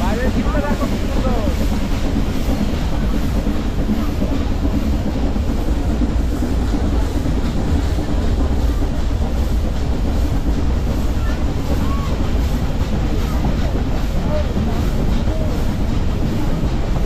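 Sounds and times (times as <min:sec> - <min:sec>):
train coach rumbling and rattling: 0:00.0 - 0:17.0.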